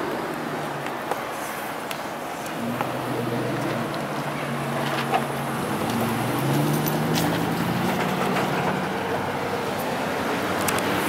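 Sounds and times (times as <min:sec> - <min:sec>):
road traffic noise: 0:00.0 - 0:11.0
vehicle engine humming: 0:00.0 - 0:11.0.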